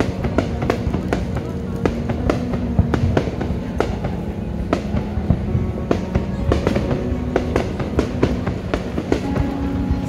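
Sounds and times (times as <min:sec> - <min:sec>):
fireworks bangs: 0:00.0 - 0:10.0
music playing: 0:00.0 - 0:10.0.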